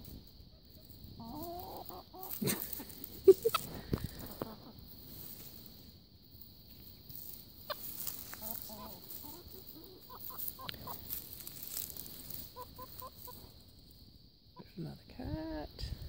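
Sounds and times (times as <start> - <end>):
chickens clucking: 0.0 - 14.8.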